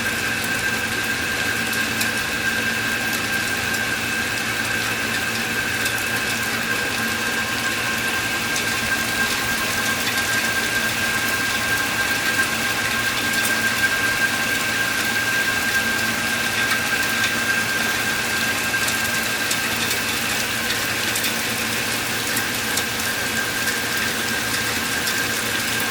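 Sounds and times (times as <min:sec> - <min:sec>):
steady rain hiss: 0:02.1 - 0:25.9.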